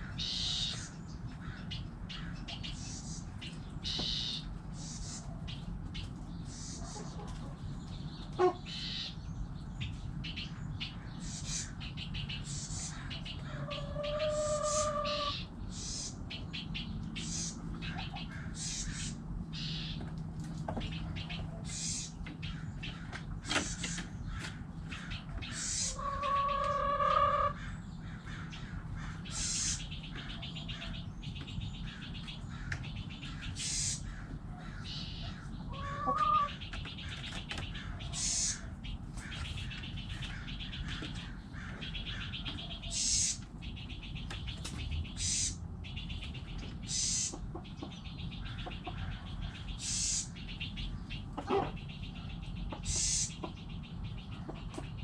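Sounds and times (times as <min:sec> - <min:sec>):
chickens calling: 0:00.0 - 0:55.0
small birds chirping: 0:00.0 - 0:55.0.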